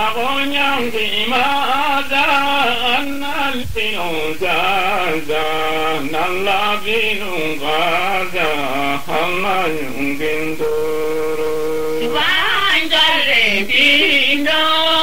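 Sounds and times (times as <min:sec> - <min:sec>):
man singing chant-like melody: 0:00.0 - 0:15.0.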